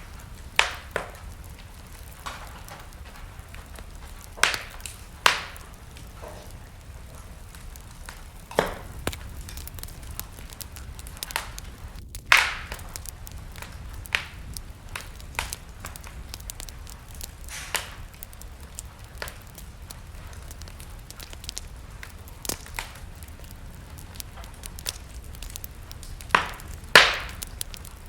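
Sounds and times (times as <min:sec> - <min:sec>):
low rush of flame: 0:00.0 - 0:28.0
wood fire crackling and popping: 0:00.0 - 0:28.0.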